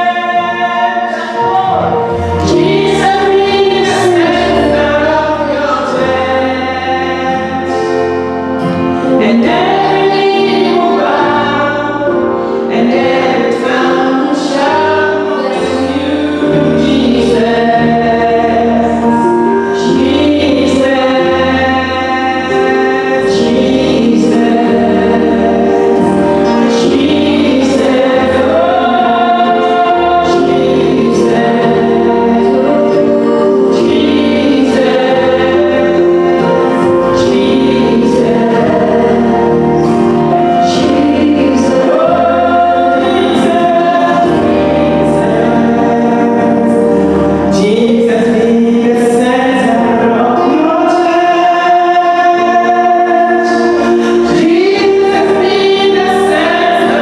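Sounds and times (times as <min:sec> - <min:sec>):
choir singing gospel: 0:00.0 - 0:57.0
instrumental backing with bass: 0:00.0 - 0:57.0.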